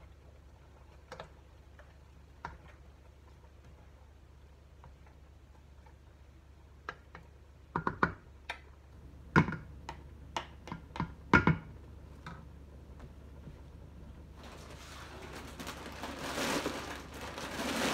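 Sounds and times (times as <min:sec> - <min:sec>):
faint low hum: 0:00.0 - 0:17.9.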